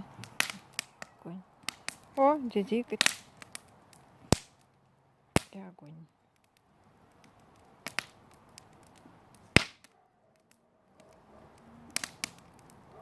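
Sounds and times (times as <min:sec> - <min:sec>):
sharp pops of fire: 0:00.0 - 0:13.0
wood fire crackling: 0:00.0 - 0:13.0.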